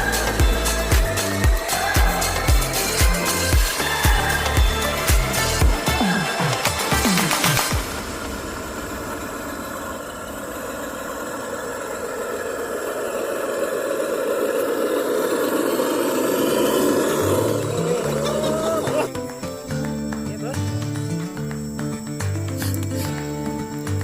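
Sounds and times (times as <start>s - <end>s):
electric motor and gearbox whining: 0.0s - 24.0s.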